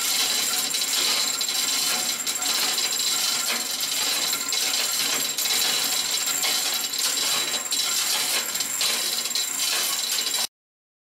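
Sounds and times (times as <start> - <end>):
hoist chain rattling and clinking: 0.0 - 10.5.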